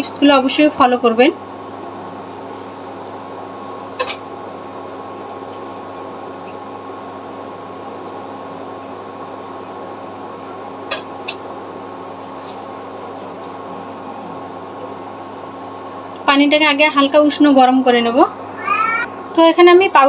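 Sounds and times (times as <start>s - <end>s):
machine hum with faint whine: 0.0s - 20.0s.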